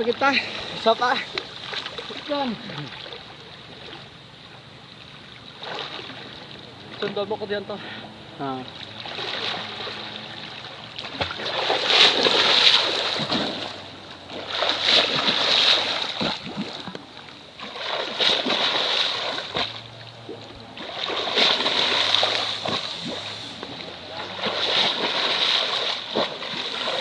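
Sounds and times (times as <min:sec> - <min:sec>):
water splashing and sloshing: 0:00.0 - 0:27.0.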